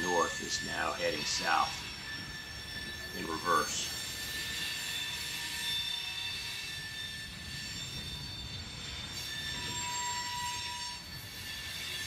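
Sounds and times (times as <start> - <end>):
freight train rumbling: 0.0 - 12.0
train wheels squealing: 0.0 - 12.0.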